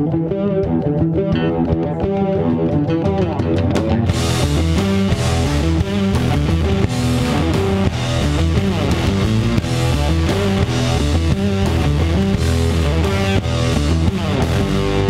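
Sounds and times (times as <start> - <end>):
instrumental rock with guitar: 0.0 - 15.0.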